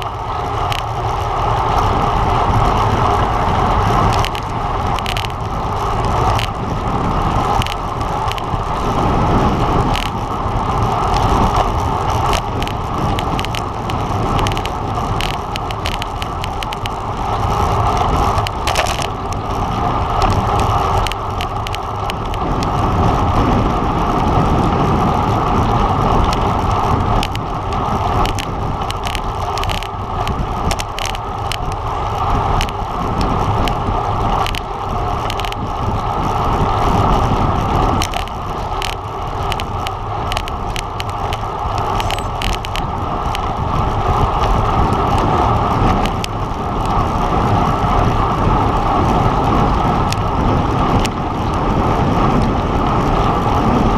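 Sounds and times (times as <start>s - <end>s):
rushing wind and road noise: 0.0s - 53.9s.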